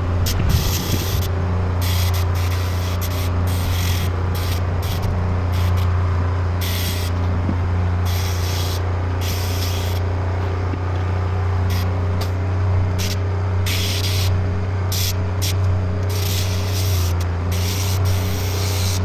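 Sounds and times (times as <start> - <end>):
compressed air hissing: 0.0 - 5.9, 6.6 - 7.2, 8.0 - 10.0, 11.6 - 12.4, 13.0 - 19.0
low hum: 0.0 - 19.0.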